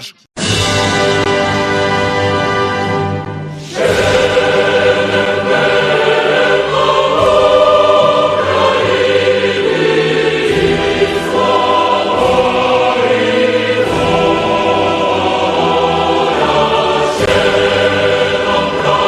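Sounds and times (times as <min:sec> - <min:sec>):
musical accompaniment: 0:00.0 - 0:19.0
choir singing sustained chords: 0:00.8 - 0:19.0.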